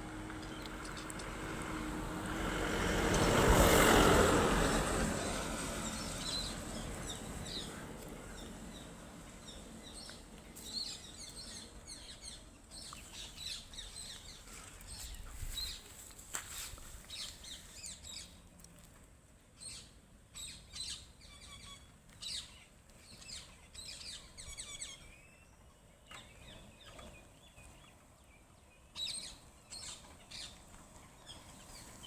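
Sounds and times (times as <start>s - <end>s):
birds chirping: 3.0s - 18.4s, 19.6s - 32.0s.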